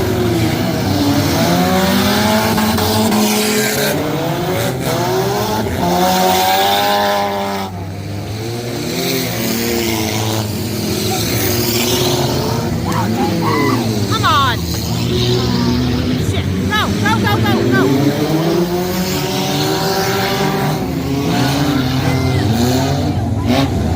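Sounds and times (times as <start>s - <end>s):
car engines revving: 0.0s - 23.9s.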